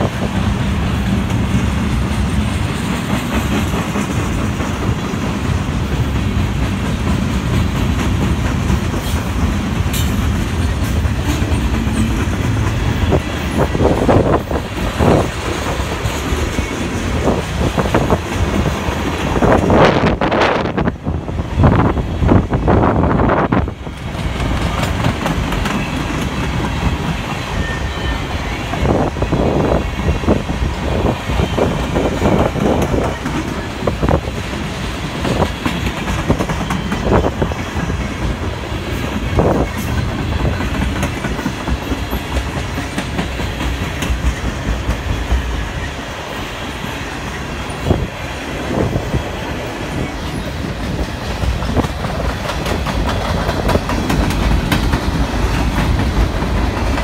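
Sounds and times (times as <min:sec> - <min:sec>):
train cars clanking: 0:00.0 - 0:57.0
train wheels rumbling on rail: 0:00.0 - 0:57.0.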